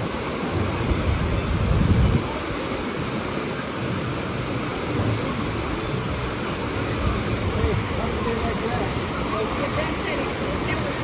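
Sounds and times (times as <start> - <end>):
waves washing and breaking: 0.0 - 11.0.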